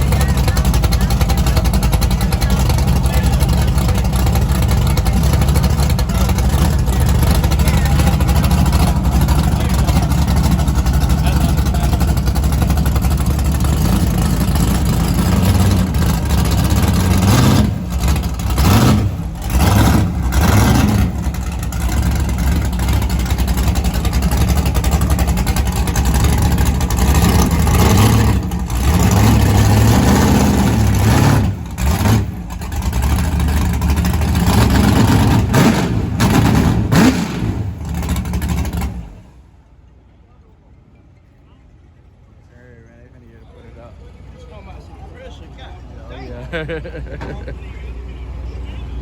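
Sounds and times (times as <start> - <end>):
car engine revving: 0.0 - 39.4.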